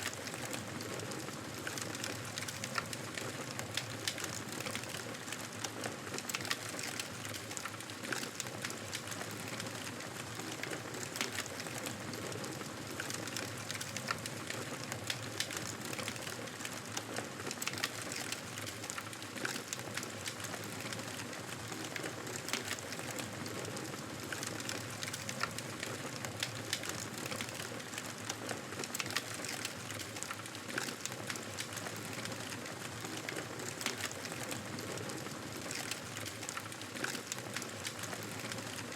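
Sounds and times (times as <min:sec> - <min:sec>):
fire crackling in fireplace: 0:00.0 - 0:38.9.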